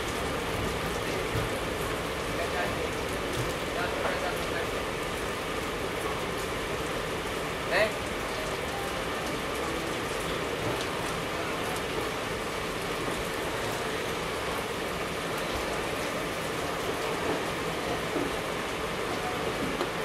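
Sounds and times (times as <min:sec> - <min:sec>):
train coaches rushing on rails: 0:00.0 - 0:06.4, 0:08.2 - 0:20.0
passing train coaches: 0:00.0 - 0:20.0.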